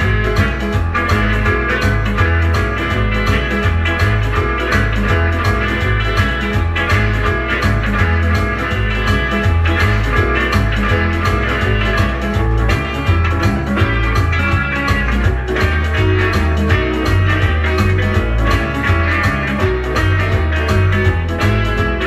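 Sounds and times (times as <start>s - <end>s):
rock and roll record playing: 0.0s - 22.0s.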